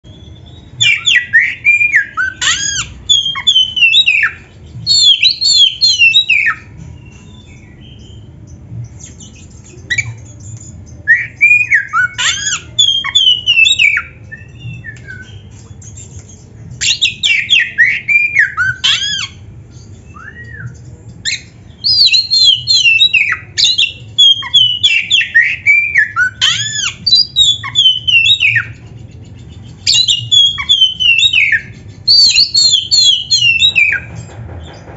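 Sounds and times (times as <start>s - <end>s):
bird whistling and chattering: 0.1s - 34.3s.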